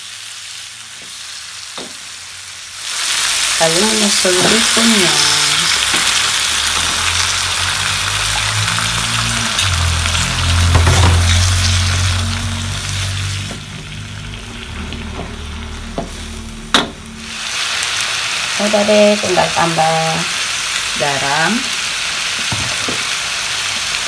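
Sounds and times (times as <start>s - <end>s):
noodles sizzling in a wok: 0.0s - 24.0s.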